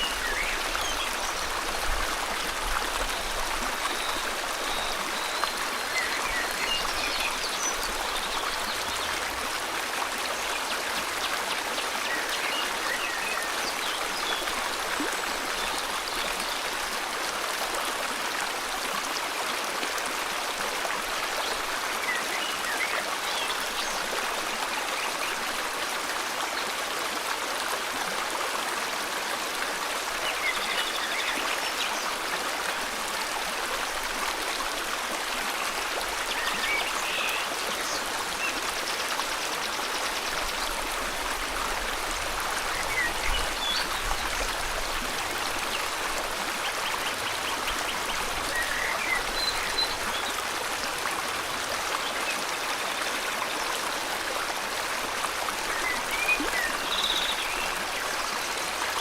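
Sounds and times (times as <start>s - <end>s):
flowing river water: 0.0s - 59.0s.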